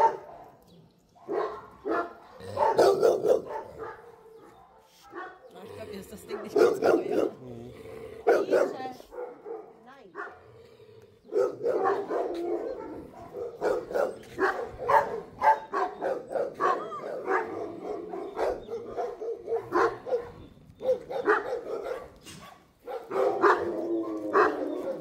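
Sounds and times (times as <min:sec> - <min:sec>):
dogs barking: 0:00.0 - 0:07.4, 0:08.2 - 0:10.5, 0:11.2 - 0:25.0.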